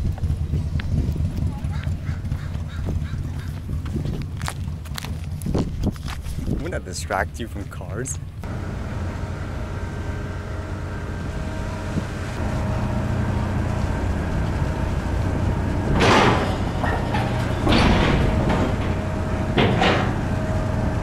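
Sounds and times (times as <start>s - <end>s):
ferry engines low rumble: 0.0s - 21.0s.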